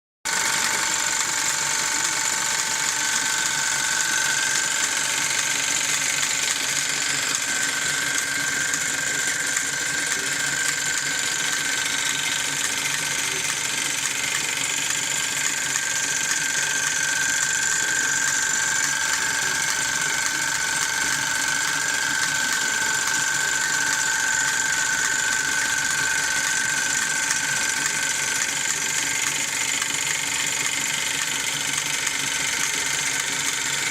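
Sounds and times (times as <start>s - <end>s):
high-pitched whining tones: 0.3s - 33.9s
toy steam engine clattering: 0.3s - 33.9s.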